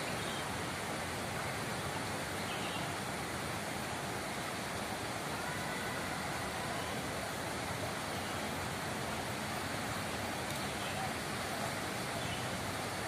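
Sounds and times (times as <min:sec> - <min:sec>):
rushing hiss: 0:00.0 - 0:13.0.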